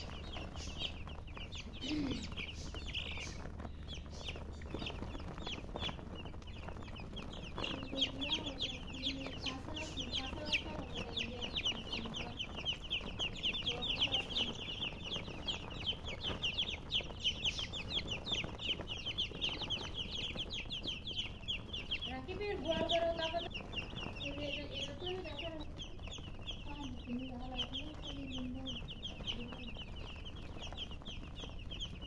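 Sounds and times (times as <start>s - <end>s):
baby chicks peeping: 0.0s - 32.0s.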